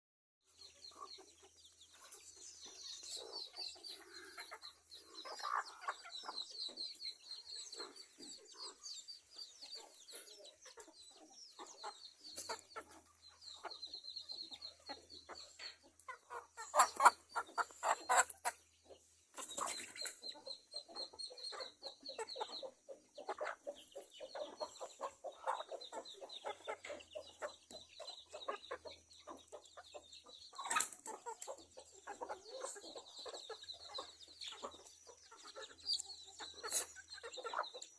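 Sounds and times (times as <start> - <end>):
chickens clucking: 0.4 - 37.9.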